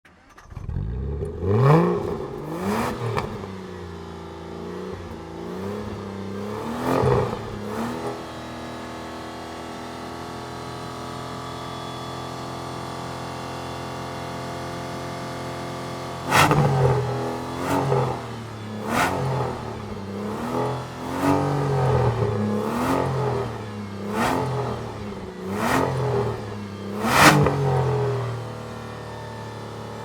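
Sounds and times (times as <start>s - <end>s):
car engine revving and idling: 0.1s - 30.0s.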